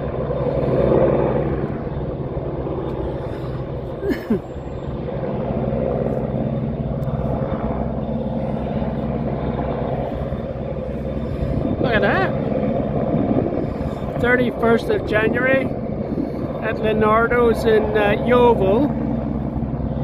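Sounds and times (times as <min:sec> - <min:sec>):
helicopter hovering: 0:00.0 - 0:20.0.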